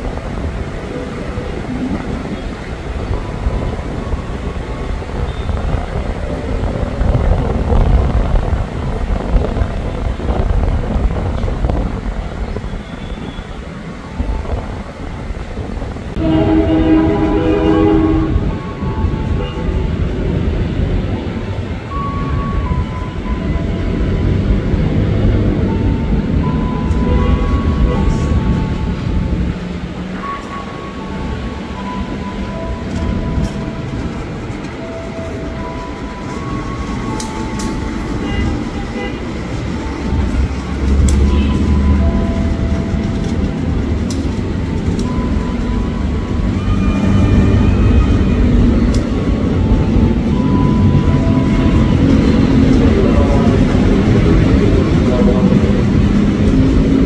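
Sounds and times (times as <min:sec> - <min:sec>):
locomotive rumbling: 0:00.0 - 0:57.0.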